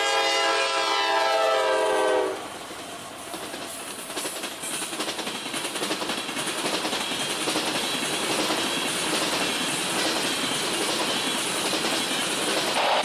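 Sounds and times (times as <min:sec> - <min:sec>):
steel train wheels on rail: 0:00.0 - 0:13.0.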